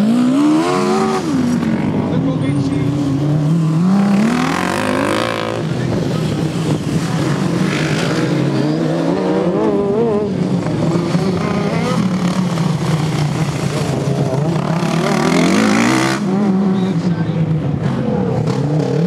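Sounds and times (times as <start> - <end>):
lawn mower engines racing: 0.0 - 19.0.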